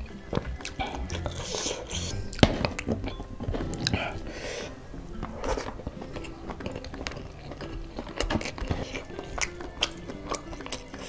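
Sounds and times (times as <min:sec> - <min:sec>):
background music: 0:00.0 - 0:11.0
chewing and mouth smacks: 0:00.0 - 0:11.0
crunchy bites: 0:00.0 - 0:11.0.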